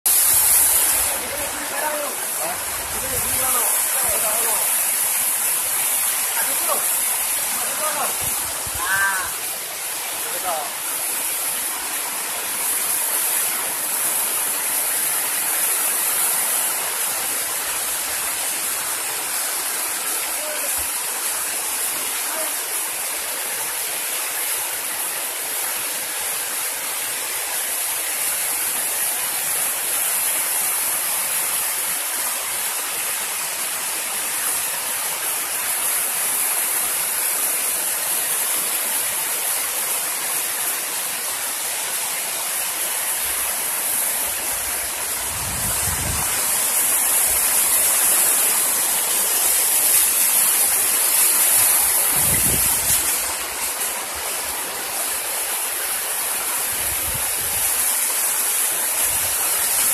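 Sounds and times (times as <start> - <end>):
waterfall rushing over rocks: 0.1 - 59.9.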